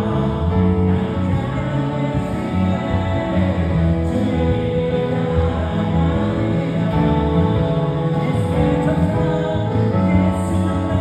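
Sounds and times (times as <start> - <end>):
bass guitar line: 0.0 - 11.0
electric guitar: 0.0 - 11.0
keyboard: 0.0 - 11.0.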